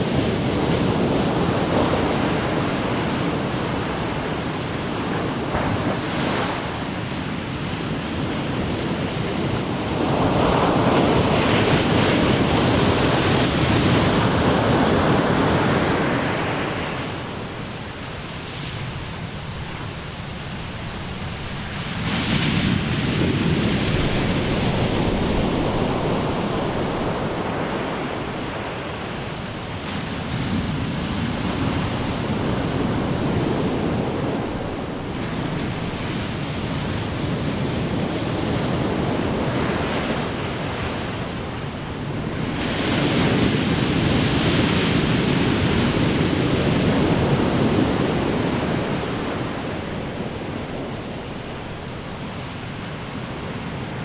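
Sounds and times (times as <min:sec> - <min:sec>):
ocean waves crashing: 0:00.0 - 0:54.0.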